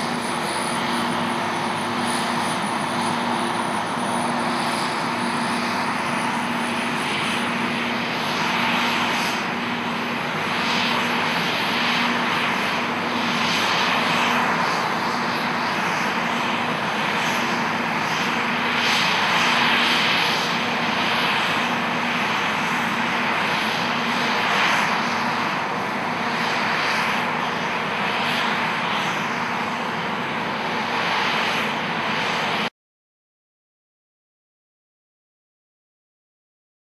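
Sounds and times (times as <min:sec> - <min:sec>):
combine harvester engine and threshing: 0:00.0 - 0:32.7.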